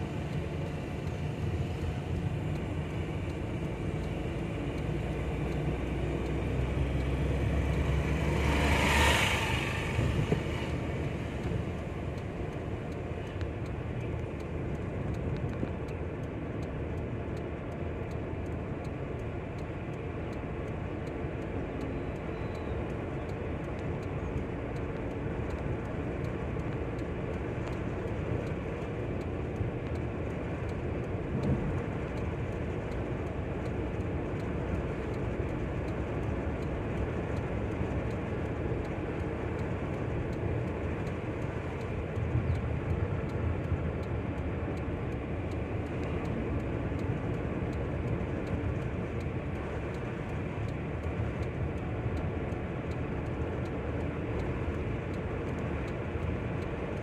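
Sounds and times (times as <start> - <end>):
car engine drone: 0.0 - 57.0
tyres on the road: 0.0 - 57.0.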